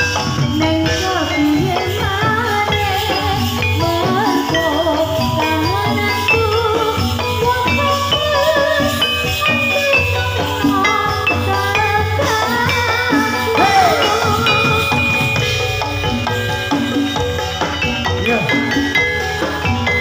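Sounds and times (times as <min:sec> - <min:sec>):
bronze metallophones playing melody: 0:00.0 - 0:20.0
steady drum rhythm: 0:00.0 - 0:20.0
wavering melody line: 0:00.6 - 0:20.0.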